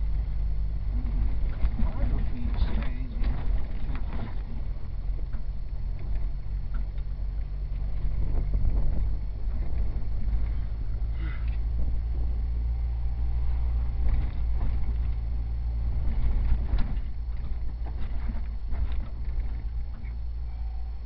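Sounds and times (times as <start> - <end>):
body and suspension rattles: 0.0 - 21.0
engine and drivetrain rumble: 0.0 - 21.0.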